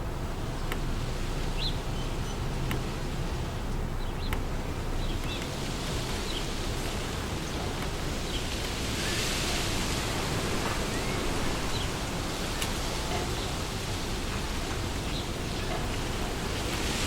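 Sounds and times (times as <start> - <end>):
wind blowing through leaves: 0.0 - 17.0.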